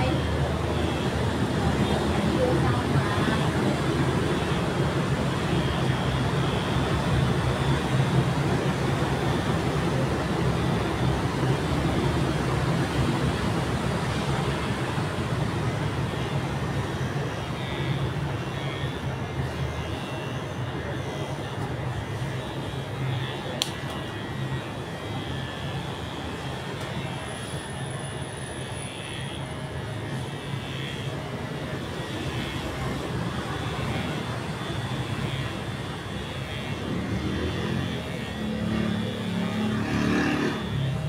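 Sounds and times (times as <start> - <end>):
electric hair clippers buzzing: 0.0 - 41.0.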